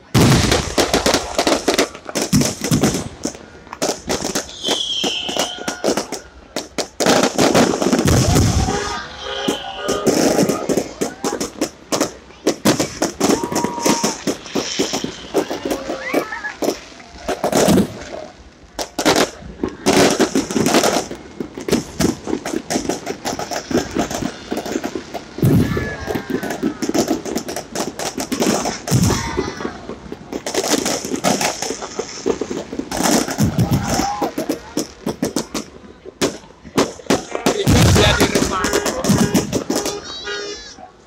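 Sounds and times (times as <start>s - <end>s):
deep firework booms: 0.0s - 40.4s
fireworks bangs and crackling: 0.0s - 41.0s.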